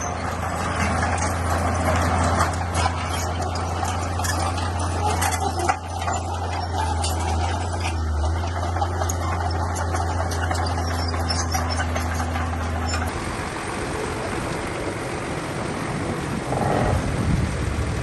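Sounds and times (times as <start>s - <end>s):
bulldozer diesel engine: 0.0s - 18.0s.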